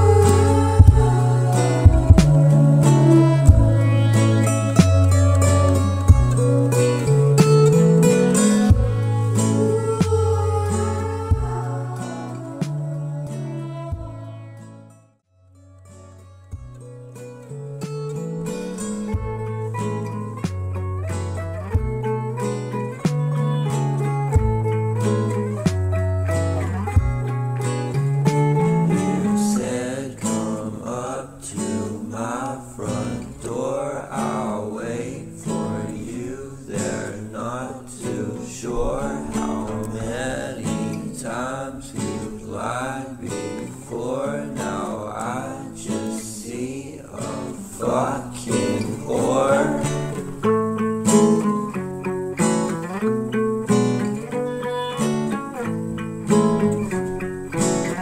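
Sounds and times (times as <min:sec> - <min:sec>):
acoustic guitar song: 0:00.0 - 0:58.0.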